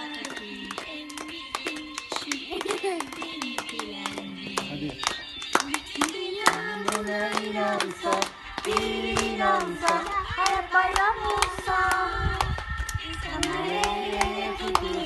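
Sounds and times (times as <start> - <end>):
children clapping hands: 0.0 - 15.0
children's clapping song singing: 0.0 - 15.0.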